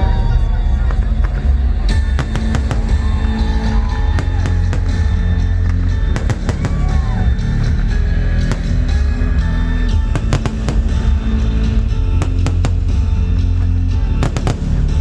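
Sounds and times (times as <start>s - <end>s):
fireworks bangs and crackles: 0.6s - 15.0s.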